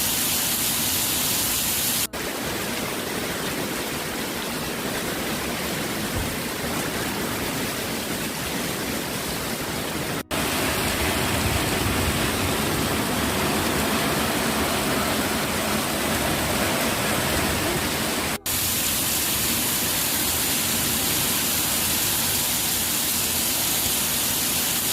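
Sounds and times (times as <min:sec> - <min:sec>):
water rushing: 0:00.0 - 0:24.9.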